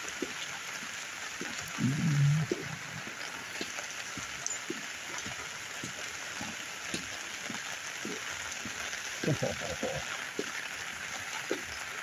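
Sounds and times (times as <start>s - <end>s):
floodwater running: 0.0s - 12.0s
rain falling steadily: 0.0s - 12.0s.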